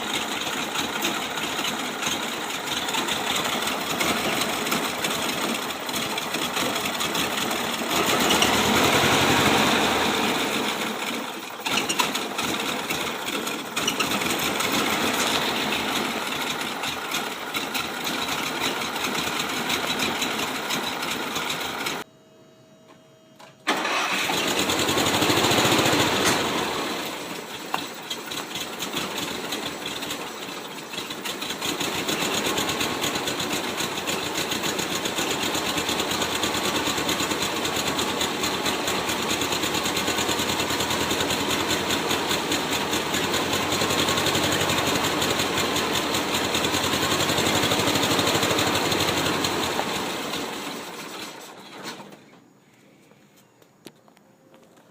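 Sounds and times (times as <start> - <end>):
car engine running: 0.0 - 22.0, 23.8 - 50.9.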